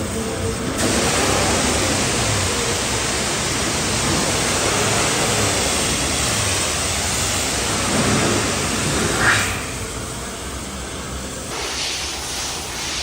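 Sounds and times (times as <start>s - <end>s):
pressure washer spraying water: 0.7s - 9.9s, 11.4s - 13.0s.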